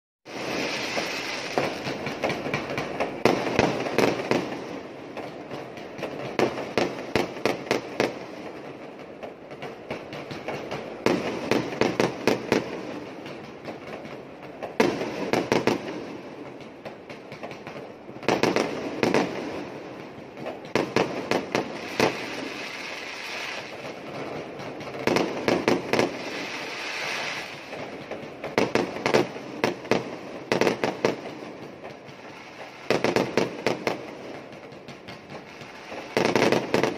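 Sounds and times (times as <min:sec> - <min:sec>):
fireworks bangs and cracks: 0:00.2 - 0:36.9
distant fireworks din: 0:00.3 - 0:36.9.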